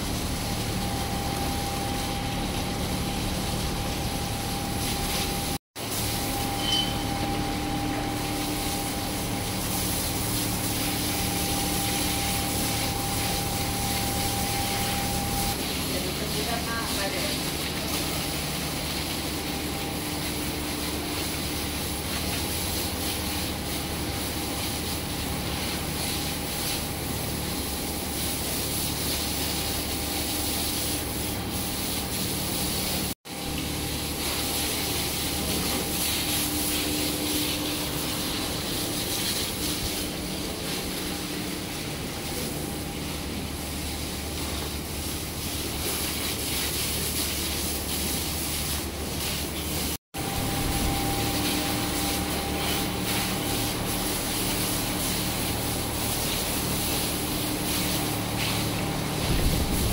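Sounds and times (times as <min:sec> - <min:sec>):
steady hum: 0:00.0 - 0:28.4, 0:33.3 - 0:45.7, 0:50.2 - 0:59.9
hose water spraying and splashing: 0:00.0 - 0:59.9.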